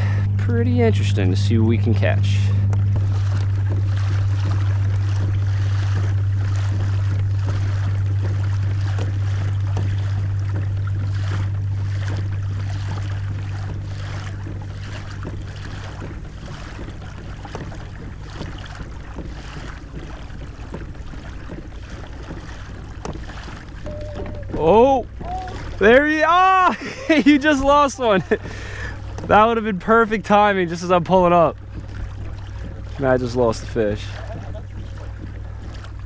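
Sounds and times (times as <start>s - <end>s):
steady low hum: 0.0s - 36.0s
water lapping along a kayak hull: 0.0s - 36.0s.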